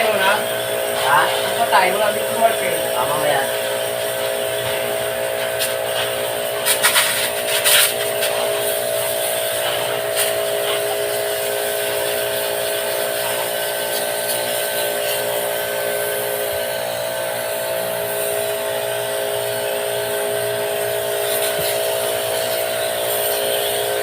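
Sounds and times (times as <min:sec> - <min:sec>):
small electric motor buzzing: 0:00.0 - 0:24.0.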